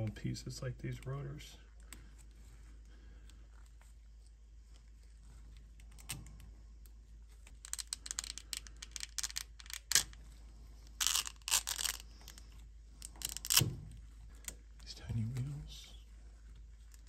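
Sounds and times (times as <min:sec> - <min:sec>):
resin supports snapping and crackling: 0:01.8 - 0:17.0.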